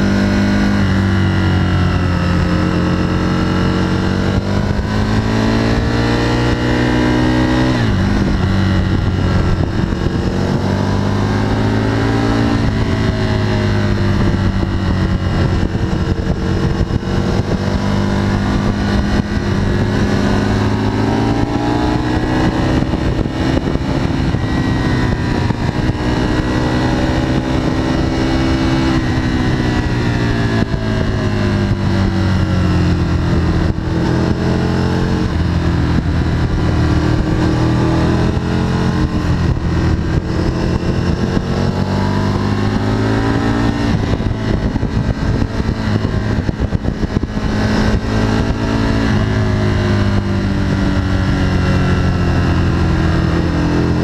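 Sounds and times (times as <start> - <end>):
motorcycle engine revving: 0.0 - 54.0
wind rushing: 0.6 - 54.0.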